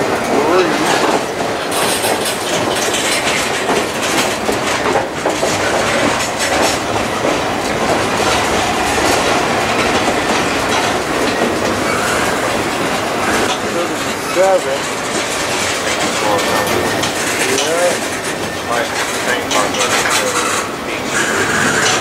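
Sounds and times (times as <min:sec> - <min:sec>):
train wheels rumbling on rails: 0:00.0 - 0:22.0
wheels clicking over rail joints: 0:00.0 - 0:22.0.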